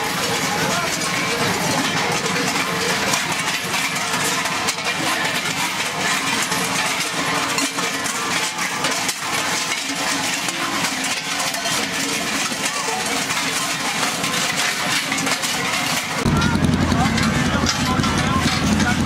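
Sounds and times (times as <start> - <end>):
large cowbells clanging: 0.0 - 19.0.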